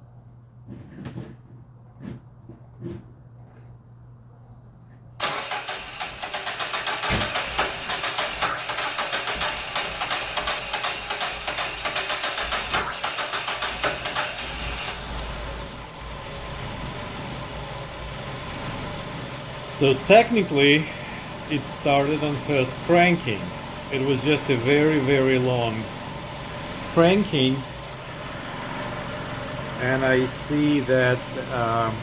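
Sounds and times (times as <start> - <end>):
car engine cranking on starter: 5.2 - 32.0
car engine idling: 5.2 - 32.0.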